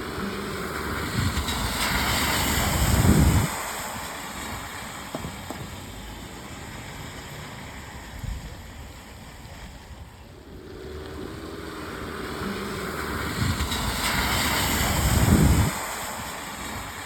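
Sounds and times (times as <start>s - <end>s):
car tyres splashing on wet road: 0.0s - 17.0s
steady rain hiss: 0.0s - 17.0s.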